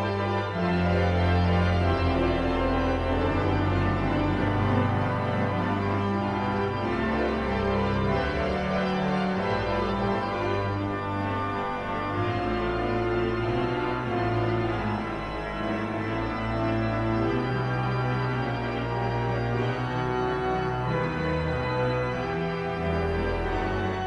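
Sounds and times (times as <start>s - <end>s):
organ music: 0.0s - 24.0s.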